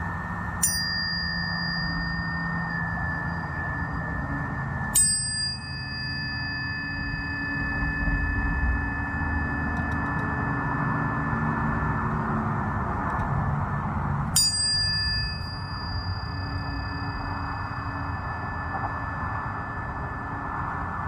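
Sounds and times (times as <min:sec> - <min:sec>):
tuning fork ringing: 0:00.0 - 0:21.0
tuning fork struck clang: 0:00.6 - 0:12.8, 0:14.3 - 0:21.0.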